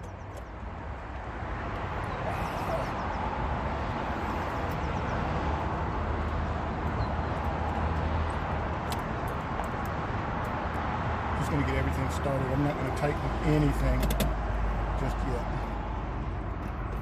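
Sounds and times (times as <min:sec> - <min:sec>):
motor vehicle rumble: 0:00.0 - 0:17.0.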